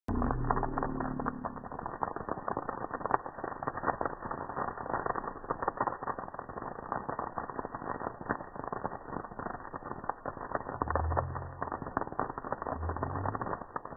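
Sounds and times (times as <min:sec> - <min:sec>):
campfire crackling and popping: 0:00.1 - 0:13.9.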